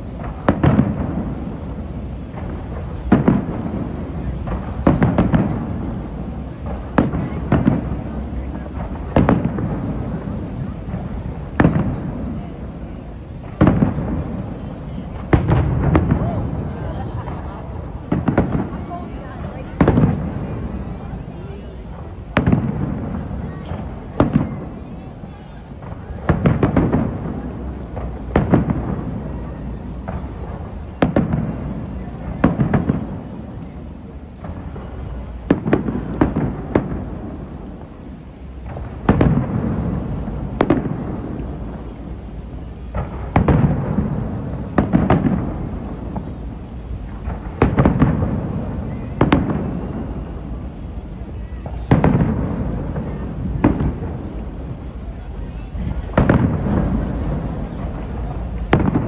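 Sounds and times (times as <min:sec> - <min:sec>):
echoing rumble: 0:00.0 - 0:59.0
fireworks booming: 0:00.0 - 0:59.0.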